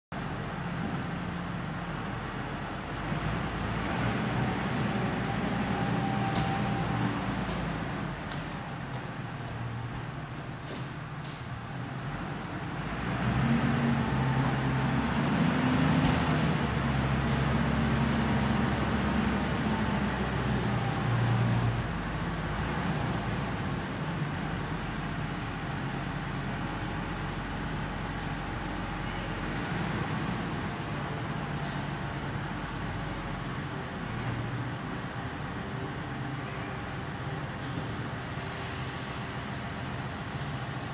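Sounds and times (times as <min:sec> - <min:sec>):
wheel loader diesel engine: 0:00.1 - 0:40.9.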